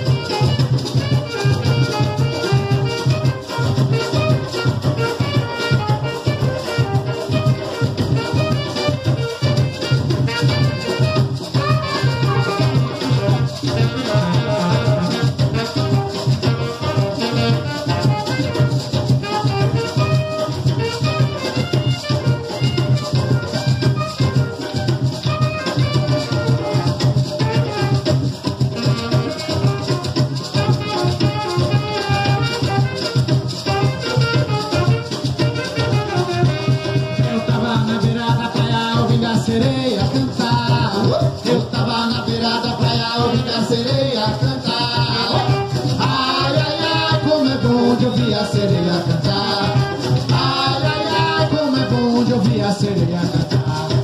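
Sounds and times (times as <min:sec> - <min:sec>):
hollow-log drums: 0:00.0 - 0:54.0
maracas: 0:00.0 - 0:54.0
saxophone: 0:00.0 - 0:54.0.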